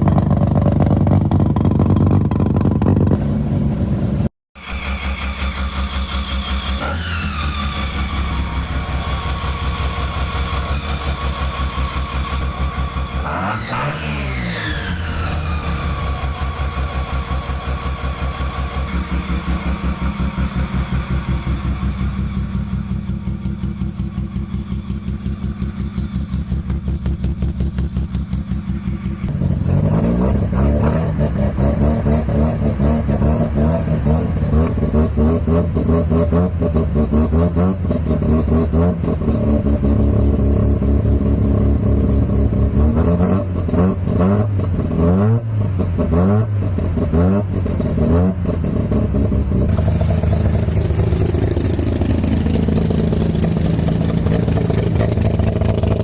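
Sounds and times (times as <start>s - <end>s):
rotary engine idling: 0.0s - 36.2s, 37.9s - 45.0s, 46.8s - 56.0s
engine rev blips: 0.0s - 56.0s.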